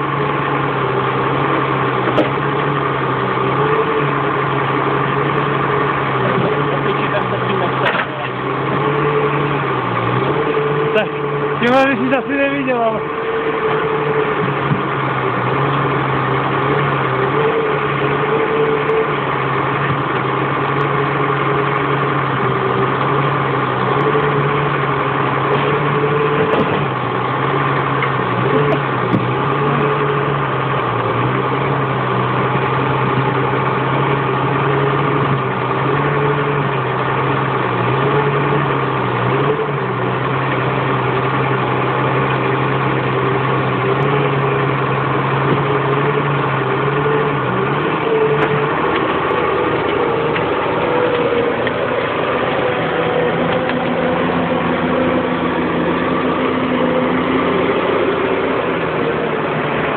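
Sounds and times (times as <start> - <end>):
diesel engine running: 0.0 - 59.9
hydraulic crane working: 0.0 - 59.9.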